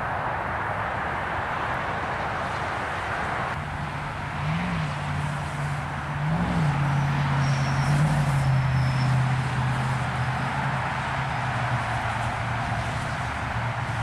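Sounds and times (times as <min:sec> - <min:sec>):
rushing road traffic noise: 0:00.0 - 0:14.0.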